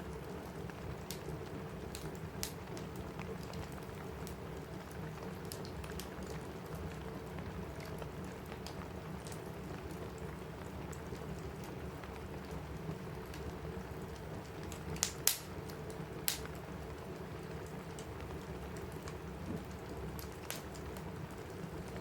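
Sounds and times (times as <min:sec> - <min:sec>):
rain on a roof: 0:00.0 - 0:22.0
wood fire crackling: 0:00.0 - 0:22.0.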